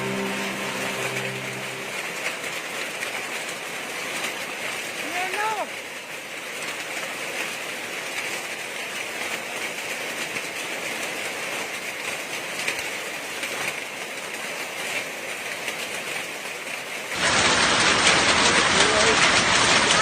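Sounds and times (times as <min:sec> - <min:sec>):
hail and rain pelting down: 0:00.0 - 0:20.0.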